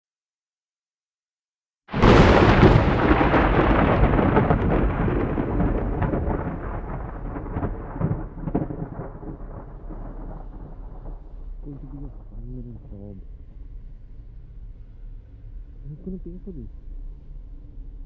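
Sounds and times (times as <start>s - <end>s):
thunder crackles: 1.9s - 18.0s
thunder rumbling: 1.9s - 18.0s.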